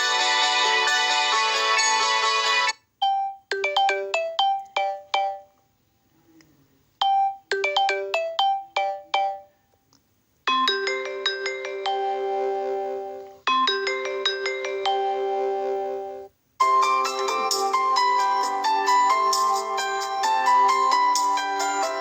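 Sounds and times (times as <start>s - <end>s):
phone ringtone melodies: 0.0s - 5.6s, 7.0s - 9.6s, 10.5s - 22.0s.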